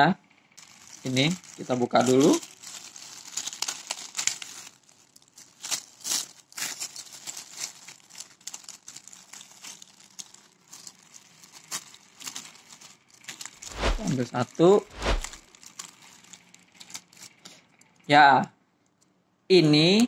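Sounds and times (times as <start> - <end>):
plastic packet crinkling: 0.6 - 17.6.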